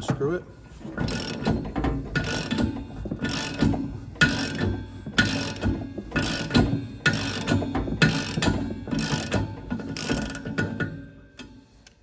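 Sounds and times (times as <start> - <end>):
ratchet wrench clicking: 1.0 - 1.6, 2.2 - 12.0.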